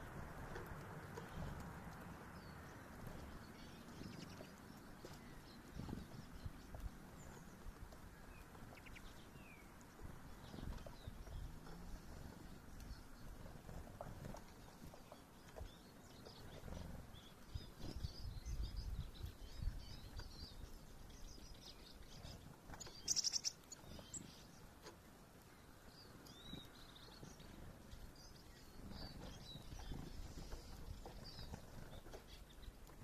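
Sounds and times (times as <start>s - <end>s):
songbirds chirping: 0.0s - 33.0s
rapid clicking bird chirps: 0.4s - 27.6s.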